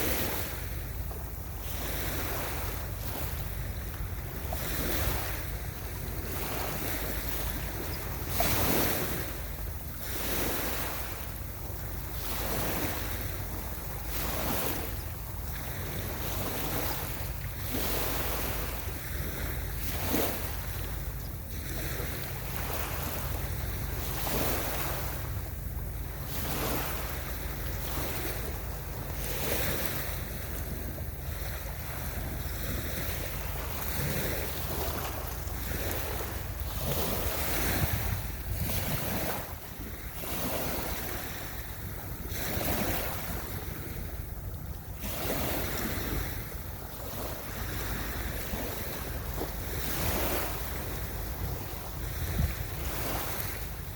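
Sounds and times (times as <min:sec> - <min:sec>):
waves washing up a beach: 0:00.0 - 0:53.9
wind rumble on microphone: 0:00.0 - 0:53.9.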